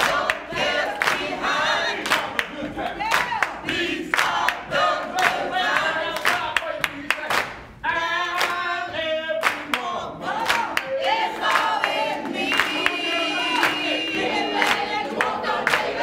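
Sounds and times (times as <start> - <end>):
hand clapping: 0.0 - 7.7, 8.3 - 8.7, 9.4 - 16.0
group of people singing: 0.0 - 16.0.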